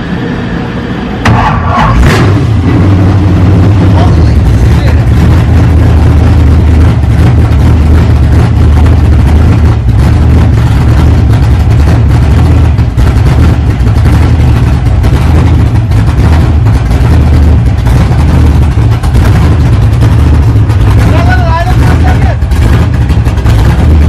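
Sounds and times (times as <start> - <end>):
engine running at lumpy idle: 0.0 - 24.0.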